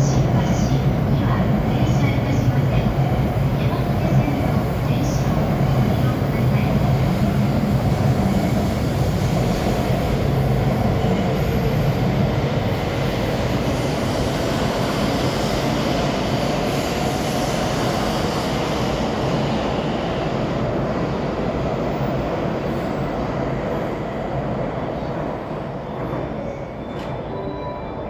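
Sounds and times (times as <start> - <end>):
train rumbling past on rails: 0.0 - 28.0.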